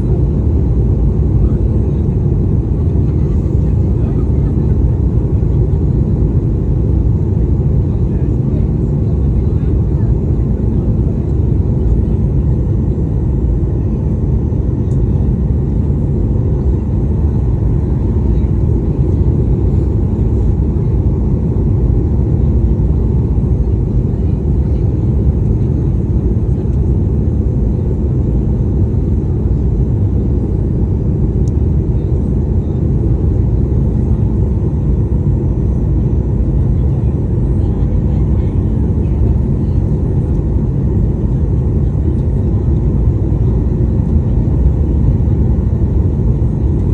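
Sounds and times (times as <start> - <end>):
airplane cabin roar: 0.0 - 46.9.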